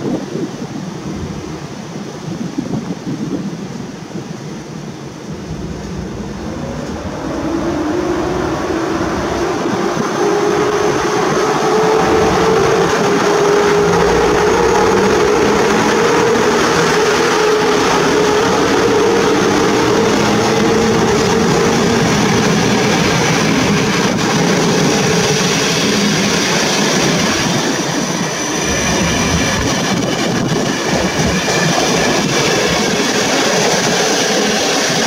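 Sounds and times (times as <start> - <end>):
electric locomotive whine: 0.0 - 35.0.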